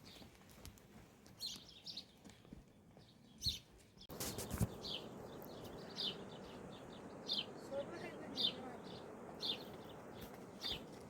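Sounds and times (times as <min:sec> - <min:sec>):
small birds chirping: 0:00.0 - 0:00.5, 0:01.3 - 0:11.0.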